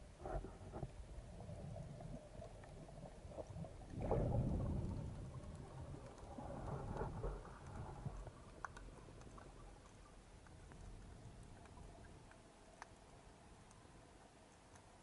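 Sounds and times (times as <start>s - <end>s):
underwater rumble of moving water: 0.0s - 14.6s
small underwater clicks: 0.0s - 15.0s.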